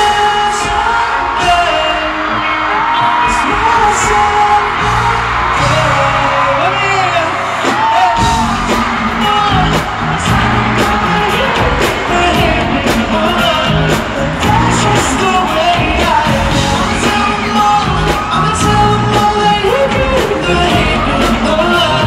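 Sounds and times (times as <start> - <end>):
band with bass and drums: 0.0 - 22.0
male singer through pa: 0.0 - 22.0.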